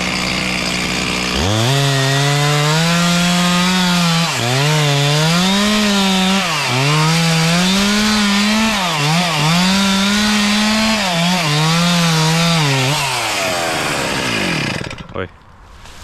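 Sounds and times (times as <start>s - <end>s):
chainsaw cutting wood: 0.0s - 15.2s.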